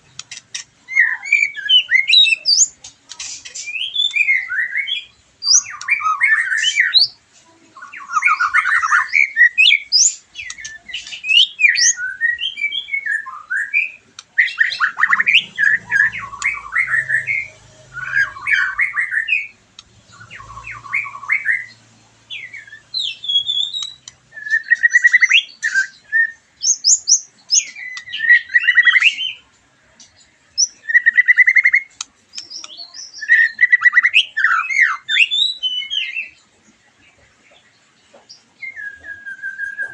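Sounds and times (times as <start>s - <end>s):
bird singing trills and whistles: 0.1s - 7.2s, 7.8s - 29.4s, 30.6s - 36.4s, 38.3s - 39.9s.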